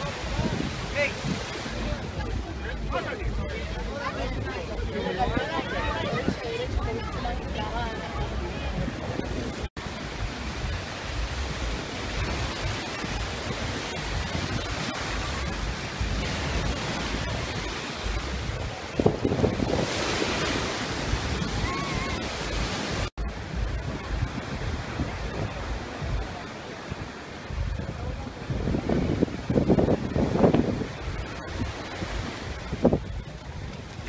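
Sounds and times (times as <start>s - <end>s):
surf washing on beach: 0.0s - 34.0s
wind buffeting microphone: 0.0s - 34.0s.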